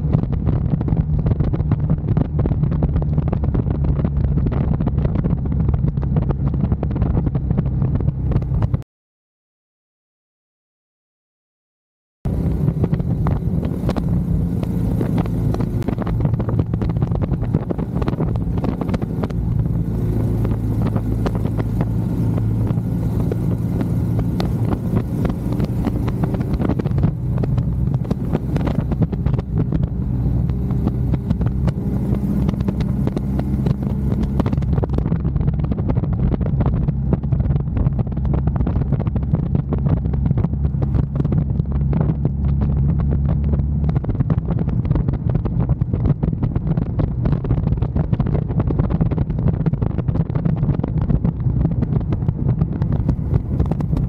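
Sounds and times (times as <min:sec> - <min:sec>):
motorcycle engine running: 0:00.0 - 0:08.8, 0:12.3 - 0:54.0
wind buffeting microphone: 0:00.0 - 0:08.8, 0:12.3 - 0:54.0.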